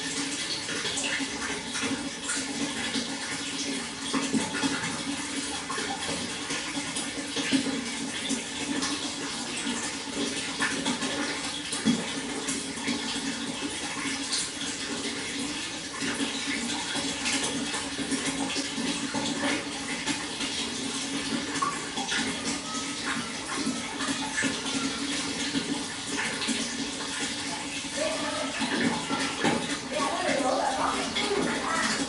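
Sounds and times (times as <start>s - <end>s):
small water splashes: 0.0s - 32.0s
water flowing: 0.0s - 32.0s.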